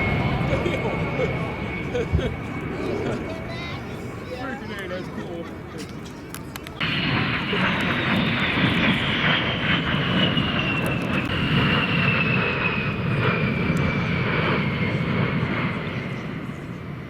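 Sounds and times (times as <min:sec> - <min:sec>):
aircraft engine roaring past: 0:00.0 - 0:17.0.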